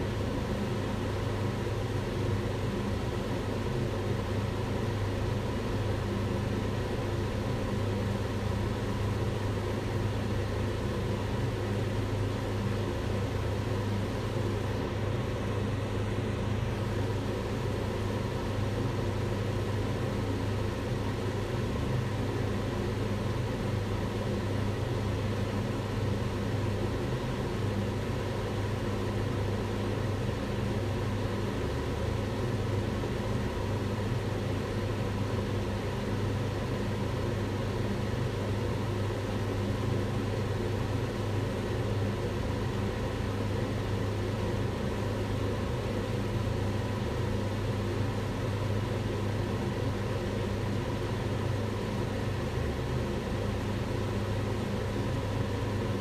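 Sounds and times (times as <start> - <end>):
range hood fan whooshing hum: 0.0 - 56.0.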